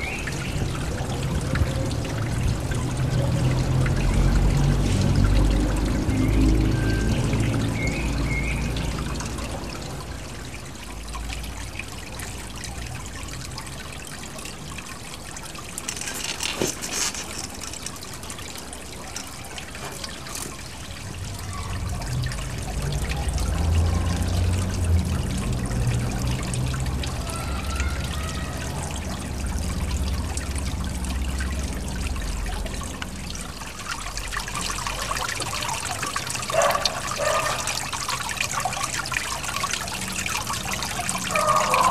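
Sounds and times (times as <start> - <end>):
water trickling and splashing: 0.0 - 41.9.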